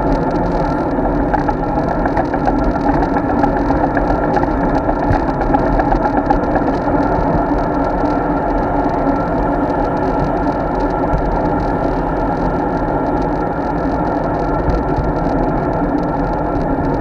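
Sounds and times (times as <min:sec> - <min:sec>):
bike riding rumble and wind: 0:00.0 - 0:17.0
small rattles and clicks: 0:00.0 - 0:17.0.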